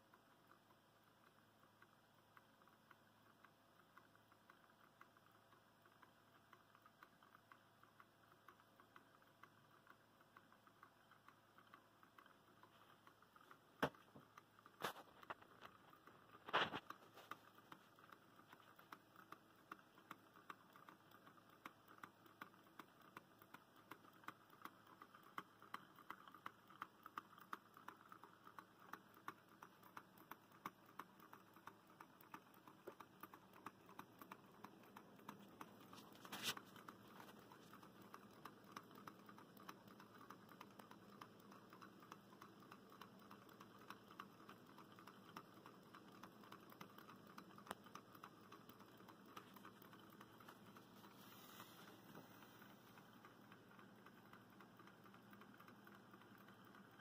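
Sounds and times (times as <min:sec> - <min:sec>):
small engines ticking: 0:00.0 - 0:57.0.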